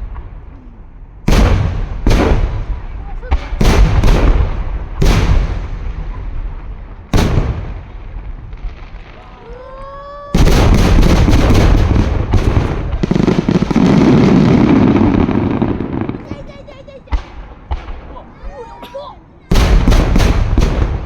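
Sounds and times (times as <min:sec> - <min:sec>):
fireworks booming: 0:00.0 - 0:21.0
rapid barrage of firework bangs: 0:01.2 - 0:09.7, 0:10.3 - 0:18.8, 0:19.5 - 0:21.0.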